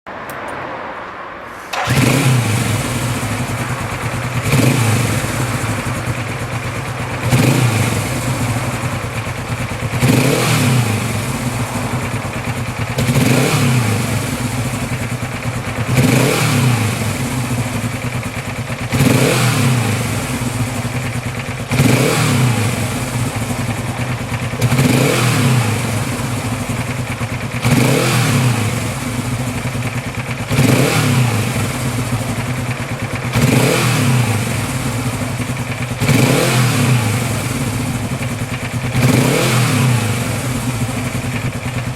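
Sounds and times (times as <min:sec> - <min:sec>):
motorcycle engine starting: 0:01.5 - 0:41.9
motorcycle engine revving: 0:01.6 - 0:41.9.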